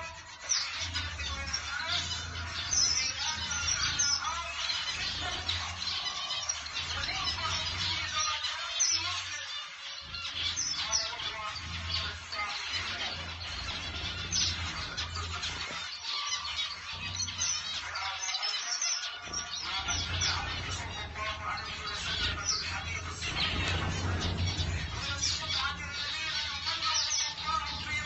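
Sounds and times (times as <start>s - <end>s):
finches chirping: 0.0s - 28.0s.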